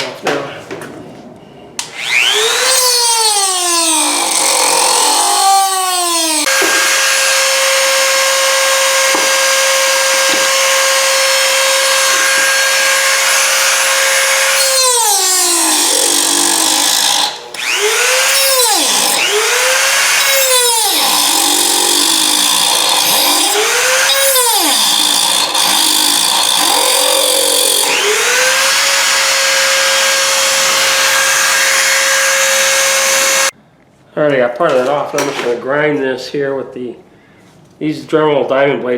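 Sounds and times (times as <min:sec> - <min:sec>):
rotary tool cutting metal: 0:01.8 - 0:33.5.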